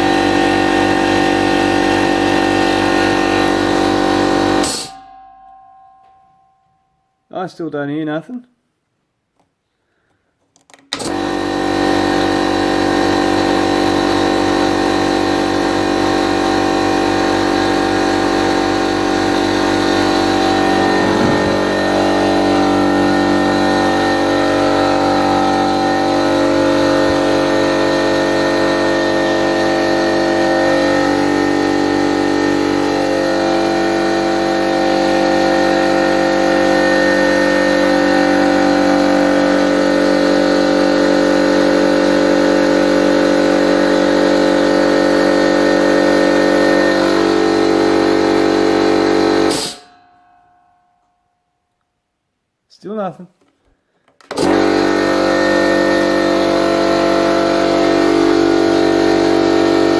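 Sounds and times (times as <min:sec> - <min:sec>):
electric air compressor running: 0:00.0 - 0:05.0, 0:11.0 - 0:49.9, 0:54.2 - 0:59.9.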